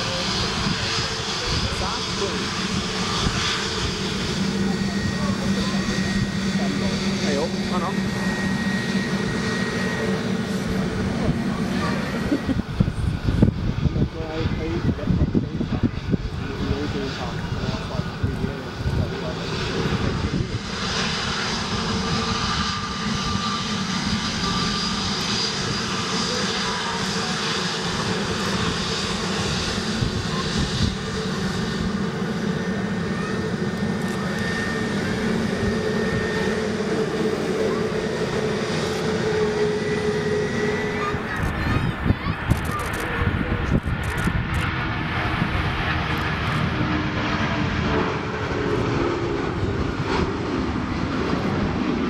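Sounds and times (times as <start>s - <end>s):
jet engines running: 0.0s - 52.0s
wind buffeting microphone: 0.0s - 52.0s.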